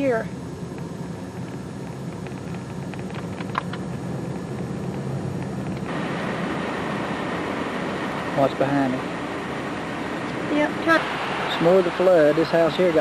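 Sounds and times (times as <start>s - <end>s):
vehicle humming: 0.0s - 13.0s
wind or road noise hiss: 0.0s - 13.0s.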